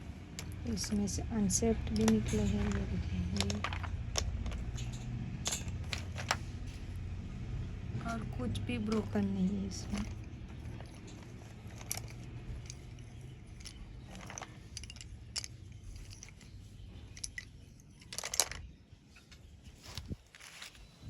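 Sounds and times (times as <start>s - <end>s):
slate pencils clicking and crunching: 0.2s - 7.0s, 8.0s - 18.8s.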